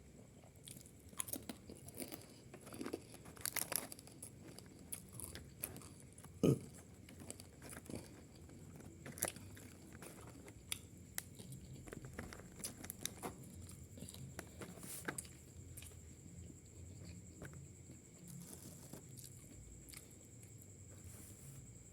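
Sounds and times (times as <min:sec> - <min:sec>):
chewing and biting food: 0:00.3 - 0:20.8.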